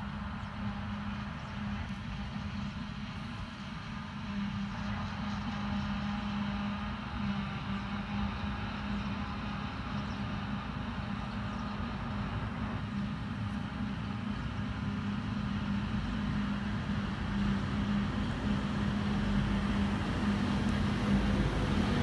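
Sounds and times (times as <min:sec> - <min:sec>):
distant farm machinery droning: 0:00.0 - 0:22.0.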